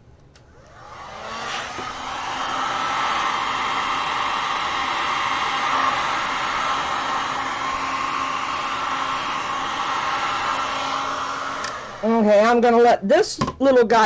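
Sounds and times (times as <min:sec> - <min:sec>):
heat gun blowing air: 0:00.5 - 0:12.3.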